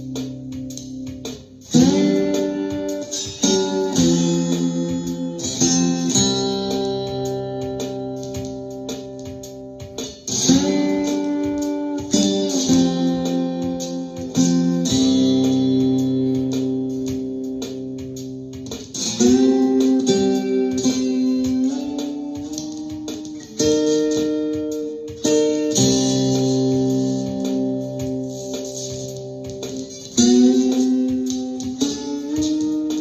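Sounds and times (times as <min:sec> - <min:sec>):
acoustic guitar chords ringing: 0:00.0 - 0:33.0.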